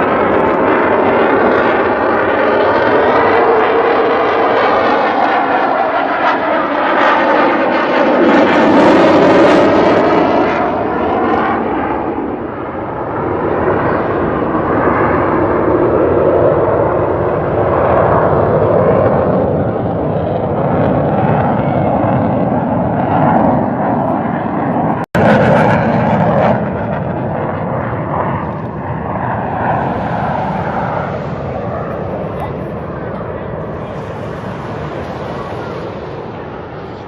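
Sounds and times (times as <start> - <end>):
airplane engine flying by: 0.0 - 37.0.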